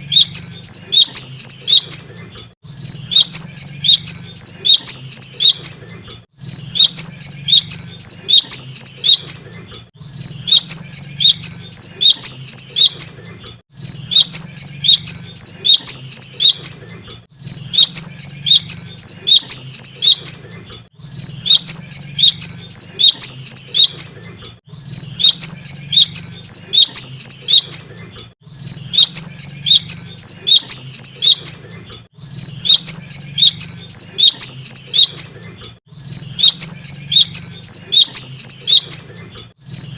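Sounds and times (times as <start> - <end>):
bird singing high chirping phrases: 0.0 - 39.9.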